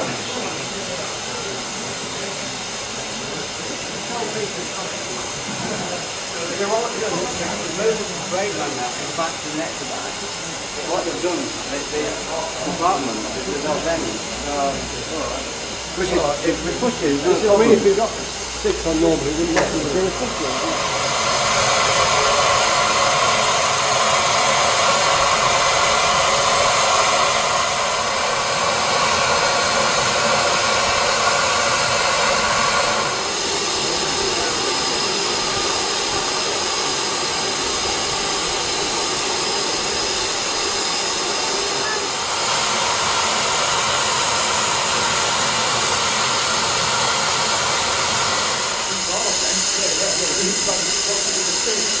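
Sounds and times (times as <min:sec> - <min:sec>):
steam locomotive hissing steam: 0:00.0 - 0:52.0.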